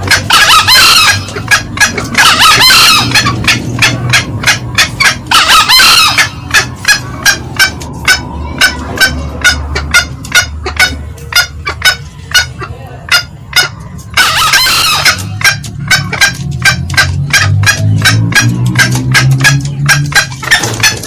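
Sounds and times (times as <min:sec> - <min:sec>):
hen cackling: 0:00.0 - 0:21.0
junglefowl hoarse crows: 0:00.0 - 0:21.0.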